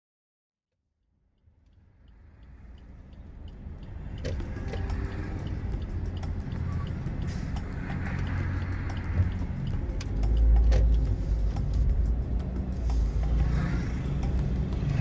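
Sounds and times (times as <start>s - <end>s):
car road and engine rumble: 1.3s - 15.0s.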